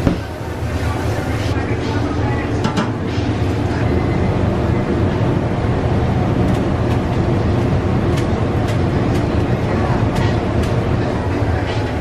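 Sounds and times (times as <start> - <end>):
kitchen rumble of gas burners: 0.0 - 12.0.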